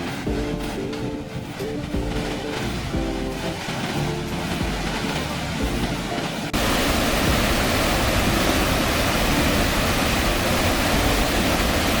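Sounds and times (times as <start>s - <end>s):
music: 0.0s - 6.6s, 7.2s - 12.0s
waterfall rushing: 0.0s - 12.0s.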